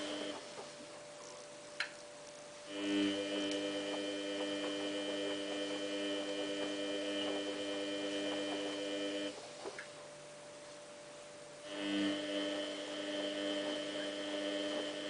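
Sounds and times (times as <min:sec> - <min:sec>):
washing machine electric hum: 0:00.0 - 0:15.0.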